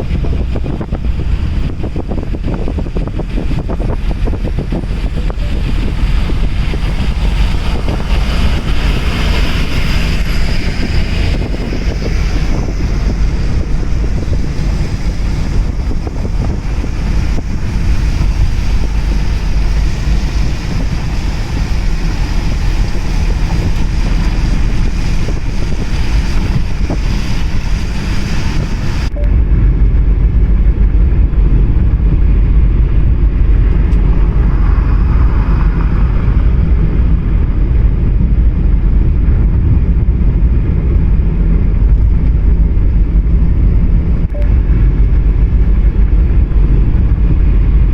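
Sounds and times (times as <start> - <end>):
car road and wind noise: 0.0 - 47.9
low rumble: 0.0 - 47.9.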